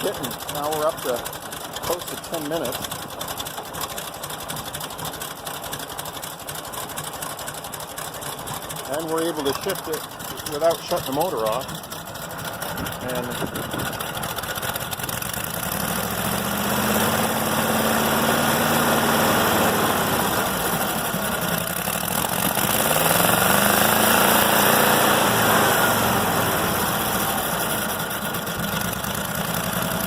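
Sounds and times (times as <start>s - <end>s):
locomotive engine running: 0.0s - 30.0s.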